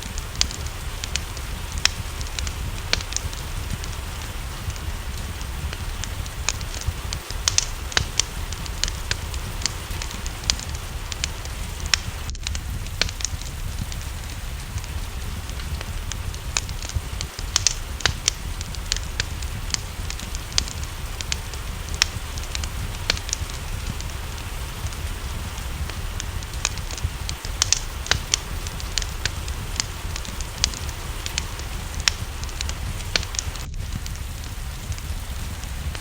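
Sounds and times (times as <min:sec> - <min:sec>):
low rumble: 0:00.0 - 0:36.0
rain hissing: 0:00.0 - 0:36.0
wood fire crackling and popping: 0:00.0 - 0:36.0.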